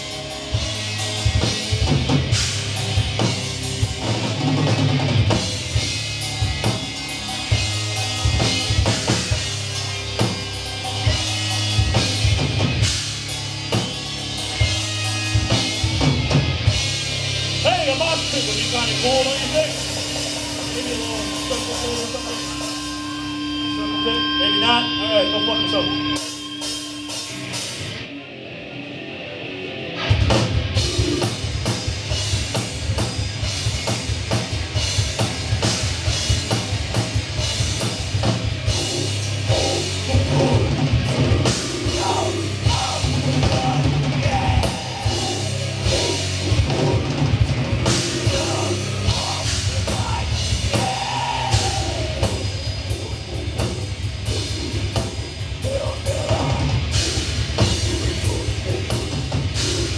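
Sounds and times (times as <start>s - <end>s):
fast drumming: 0.0s - 23.0s, 30.1s - 59.9s
heavy metal band playing: 0.0s - 59.9s.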